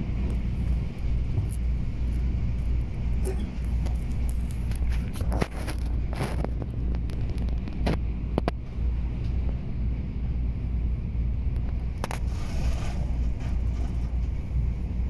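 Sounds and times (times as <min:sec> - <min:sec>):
train carriage rumbling: 0:00.0 - 0:15.0.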